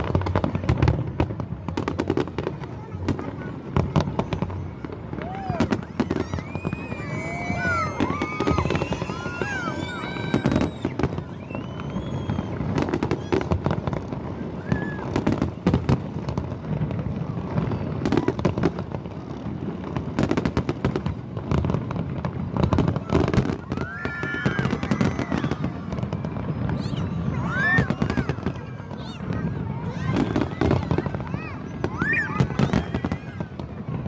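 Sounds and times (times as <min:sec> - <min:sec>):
fireworks bangs and crackling pops: 0:00.0 - 0:34.0
fireworks whistling: 0:00.0 - 0:34.0.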